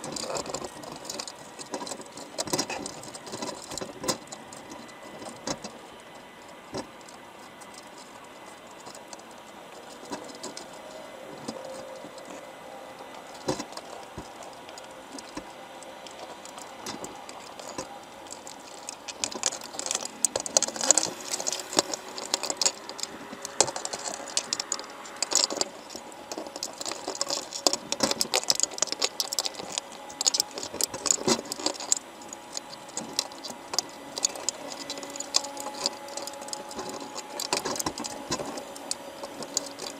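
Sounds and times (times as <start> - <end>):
crabs clicking and tapping underwater: 0.0 - 39.9.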